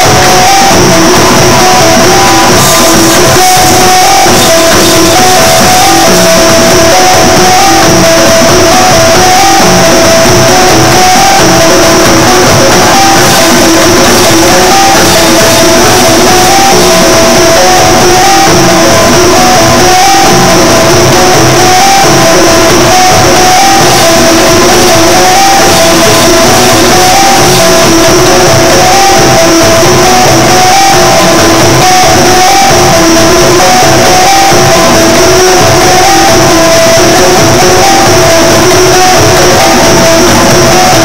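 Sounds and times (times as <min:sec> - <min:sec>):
dance music with plucked strings: 0:00.0 - 0:41.0.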